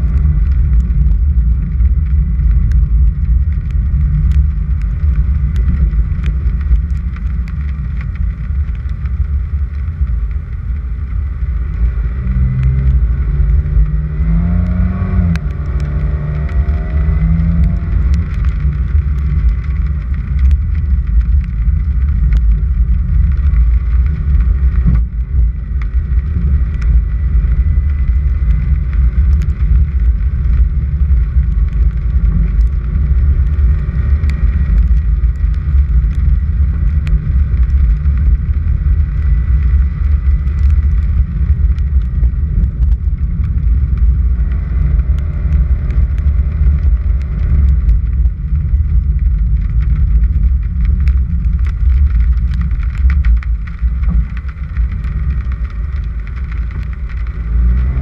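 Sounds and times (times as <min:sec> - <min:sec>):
small gravel ticks: 0:00.0 - 0:58.0
vehicle rumbling on gravel: 0:00.0 - 0:58.0.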